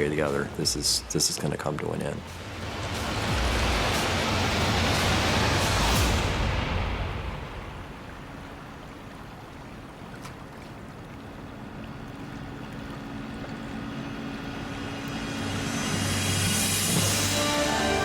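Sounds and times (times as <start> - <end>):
sea water lapping: 0.0 - 17.3
steady low hum: 0.0 - 17.4.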